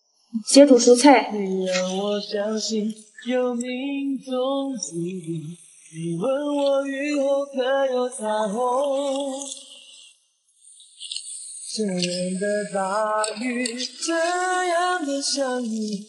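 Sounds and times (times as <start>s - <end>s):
person singing slow melody: 1.4s - 10.1s, 11.0s - 16.0s.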